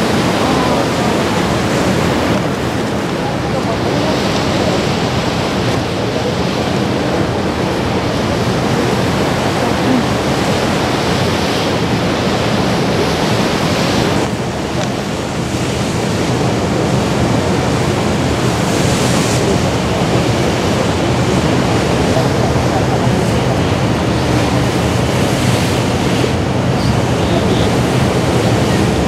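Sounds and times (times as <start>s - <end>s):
choppy water washing: 0.0s - 29.0s
wind on microphone: 0.0s - 29.0s.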